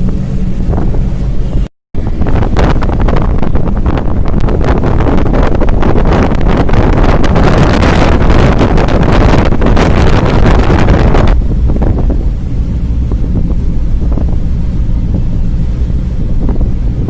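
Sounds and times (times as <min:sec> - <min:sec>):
vehicle low rumble: 0:00.0 - 0:17.0
wind buffeting microphone: 0:00.0 - 0:17.0.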